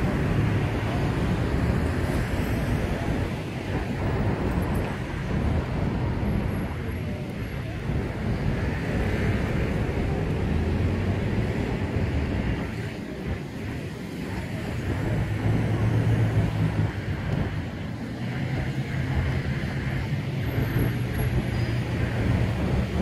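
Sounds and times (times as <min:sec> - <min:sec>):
city traffic hum: 0:00.0 - 0:23.0
wind buffeting microphone: 0:00.0 - 0:23.0.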